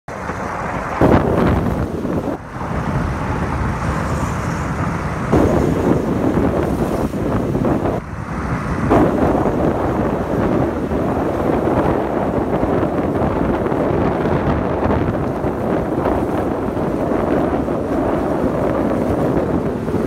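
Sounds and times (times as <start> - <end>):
wind buffeting microphone: 0.1 - 20.0.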